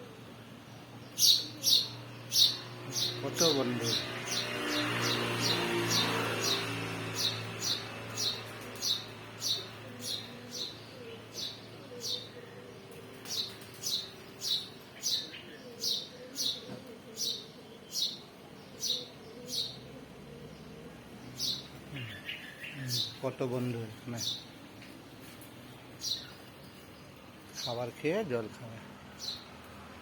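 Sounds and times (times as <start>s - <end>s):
small bird chirping: 0.7s - 19.9s, 20.5s - 27.8s.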